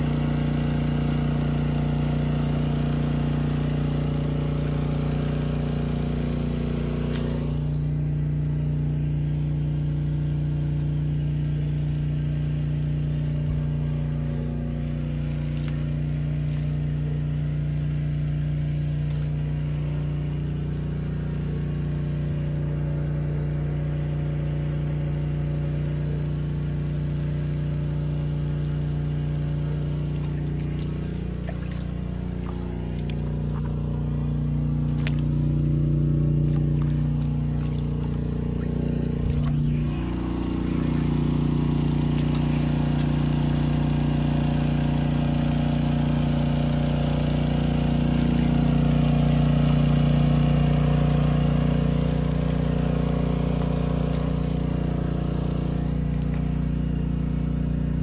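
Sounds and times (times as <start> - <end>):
engine running with low hum: 0.0 - 58.0.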